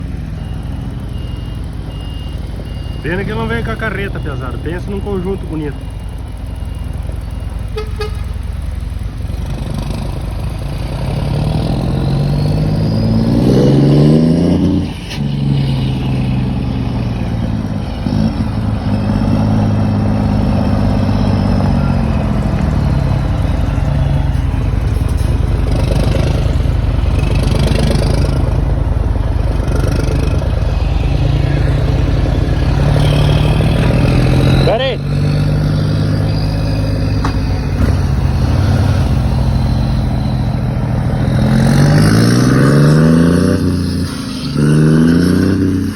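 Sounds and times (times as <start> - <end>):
truck diesel engine revving: 0.0 - 45.9.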